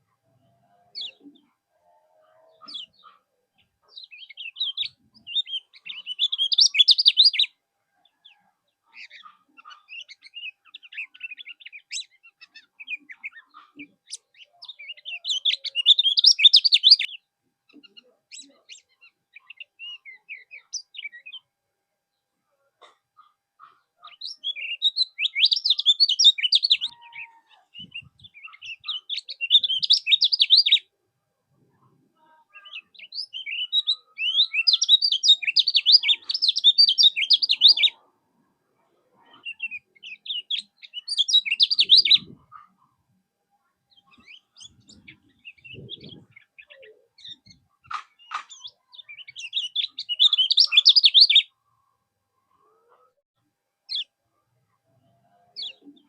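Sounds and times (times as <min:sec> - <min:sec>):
songbird chirping rapidly: 0:00.3 - 0:21.5, 0:23.2 - 0:31.0, 0:31.6 - 0:38.1, 0:39.2 - 0:42.8, 0:43.9 - 0:52.6.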